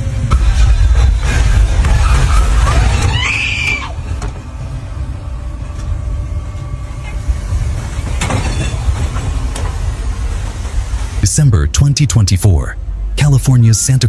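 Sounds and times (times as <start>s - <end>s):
earthquake rumble: 0.0s - 13.8s.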